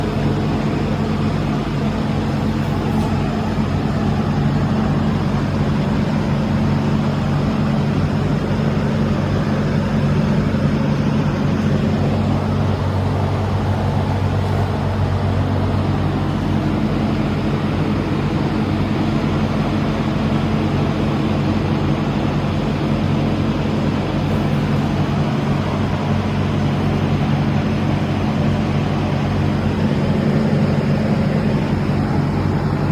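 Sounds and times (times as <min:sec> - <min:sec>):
lathe machine hum: 0:00.0 - 0:32.9.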